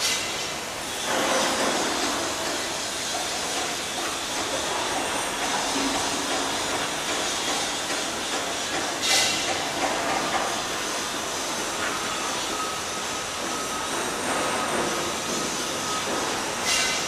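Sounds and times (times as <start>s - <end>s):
steady rushing hiss: 0.0s - 17.0s.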